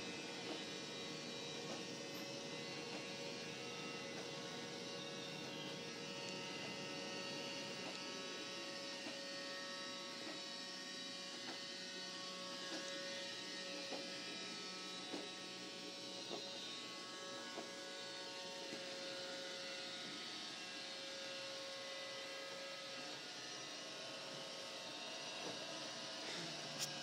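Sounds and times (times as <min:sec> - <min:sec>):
robot vacuum motor hum: 0:00.0 - 0:27.0.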